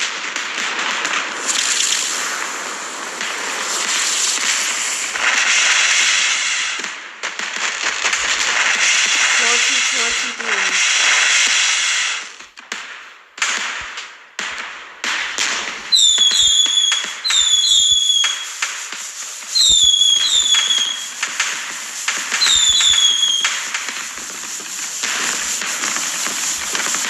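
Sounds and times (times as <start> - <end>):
firework whistles: 0.0 - 27.0
fireworks bangs and crackles: 0.0 - 27.0.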